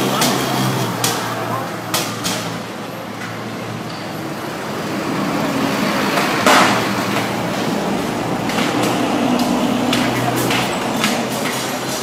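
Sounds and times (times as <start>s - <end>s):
minibus driving past: 0.0s - 12.0s
road traffic: 0.0s - 12.0s.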